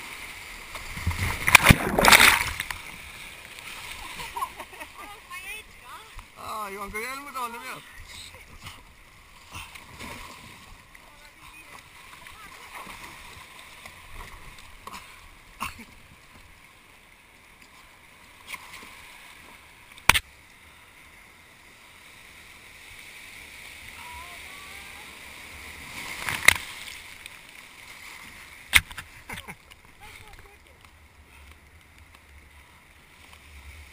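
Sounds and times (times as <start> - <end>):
sea water rushing and splashing: 0.0 - 33.9.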